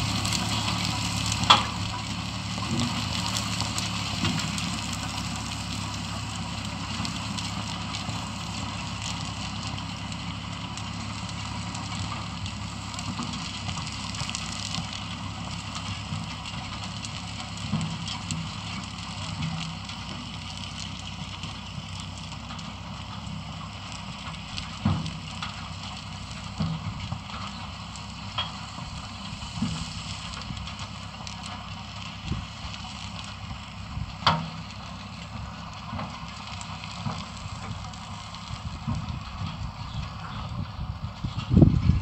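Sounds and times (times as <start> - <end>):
diesel engine humming: 0.0 - 42.0.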